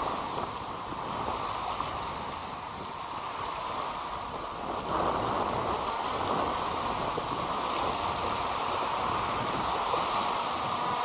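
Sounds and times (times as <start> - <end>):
waves washing onto rocky shore: 0.0 - 11.0
wind buffeting microphone: 0.0 - 11.0.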